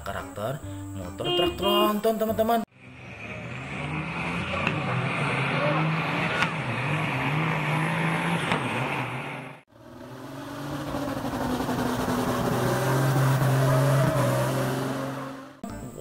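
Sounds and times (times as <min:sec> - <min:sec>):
diesel truck engines under load: 0:02.3 - 0:16.0
diesel engine revving high: 0:02.6 - 0:15.6.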